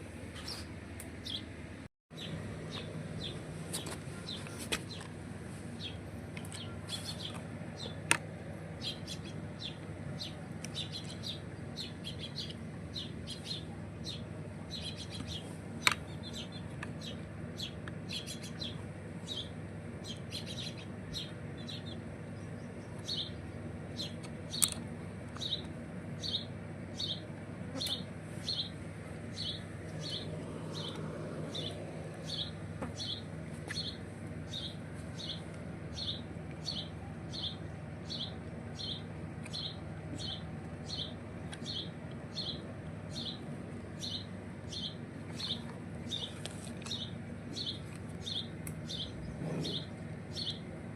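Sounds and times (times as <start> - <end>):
steady low hum: 0.0 - 50.9
small bird chirping: 5.8 - 8.0, 8.8 - 24.7, 25.3 - 43.4, 44.0 - 50.6.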